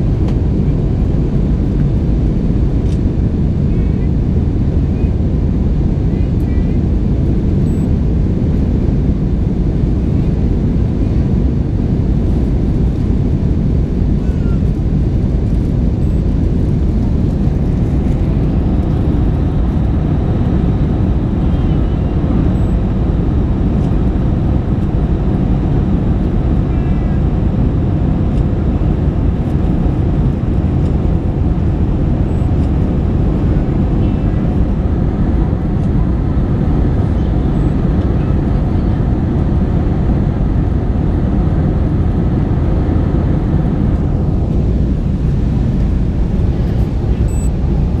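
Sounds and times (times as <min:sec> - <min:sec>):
airliner engine rumble in cabin: 0:00.0 - 0:48.0.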